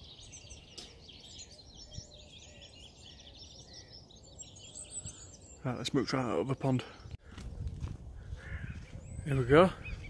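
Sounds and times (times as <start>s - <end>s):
small songbirds twittering: 0.0s - 10.0s.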